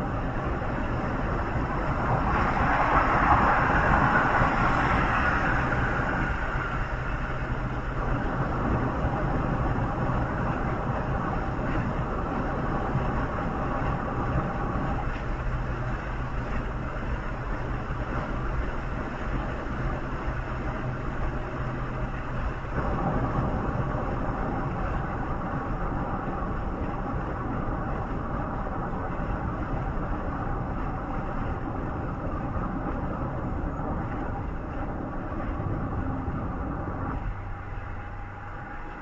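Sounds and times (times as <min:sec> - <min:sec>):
vehicle running rumble: 0:00.0 - 0:39.0.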